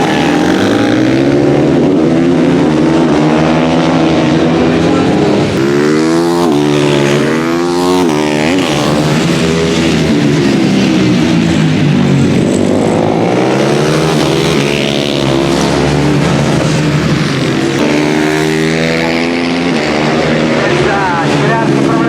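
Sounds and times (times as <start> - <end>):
motorbikes racing by: 0.0 - 22.0.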